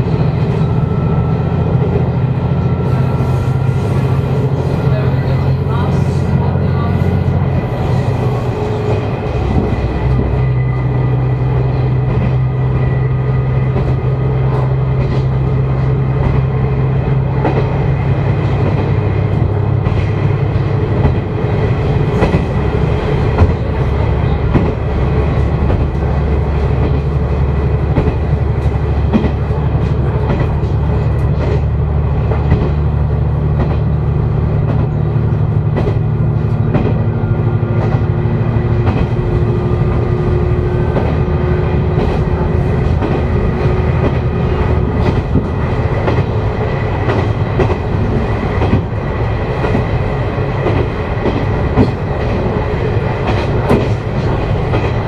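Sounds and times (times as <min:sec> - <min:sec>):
diesel railcar engine drone: 0:00.0 - 0:55.0.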